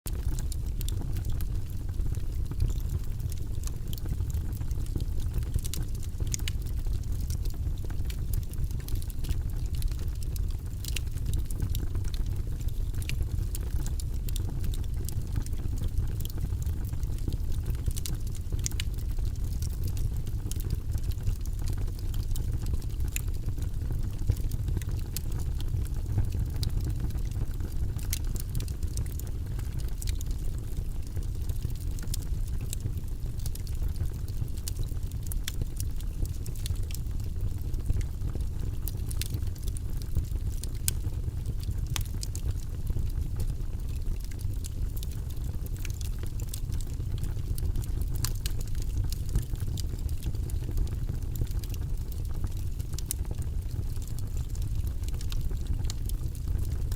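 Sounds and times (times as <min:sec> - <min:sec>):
low rumble of flames: 0:00.1 - 0:56.9
wood crackling and popping: 0:00.1 - 0:56.9.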